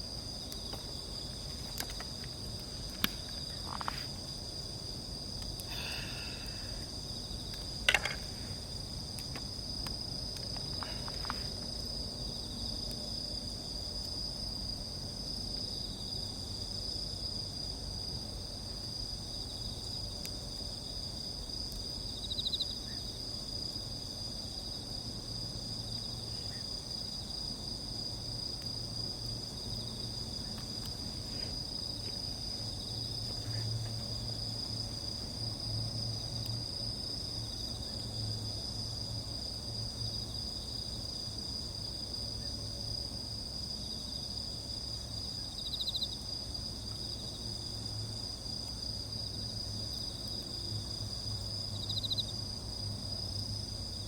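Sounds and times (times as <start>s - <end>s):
crickets and insects trilling: 0.0s - 54.0s
faint campfire crackles: 0.0s - 54.0s.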